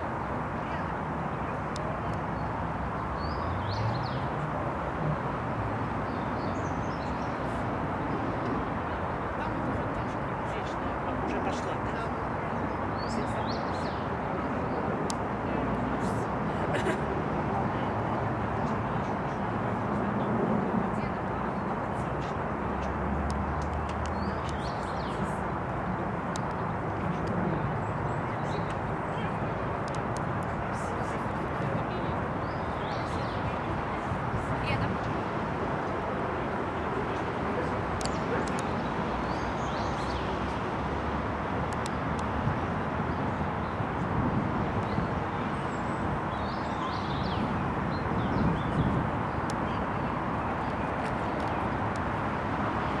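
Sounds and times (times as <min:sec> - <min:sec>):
outdoor background noise: 0:00.0 - 0:53.0.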